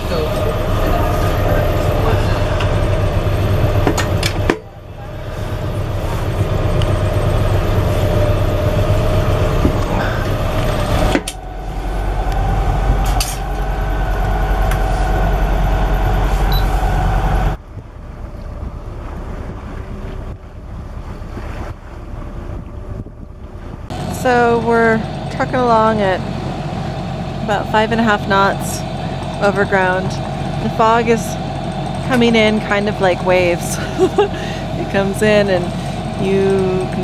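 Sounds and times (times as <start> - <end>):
boat engine humming: 0.0 - 37.0
wind and water noise: 0.0 - 37.0.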